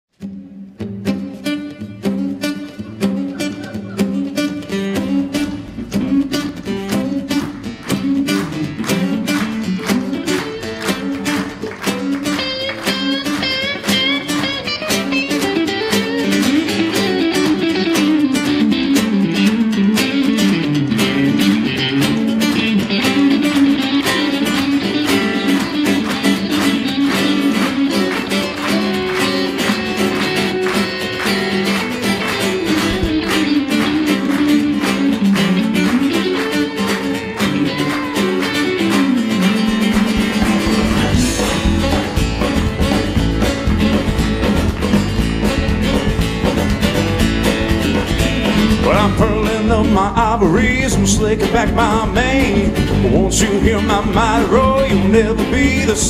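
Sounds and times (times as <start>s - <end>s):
live rock band playing: 0.2s - 56.0s.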